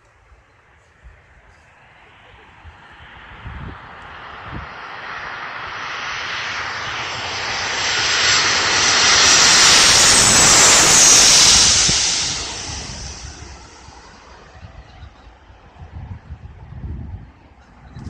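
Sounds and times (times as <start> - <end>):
jet airliner passing overhead: 0.0 - 18.0
jet engine high whine: 0.4 - 18.0.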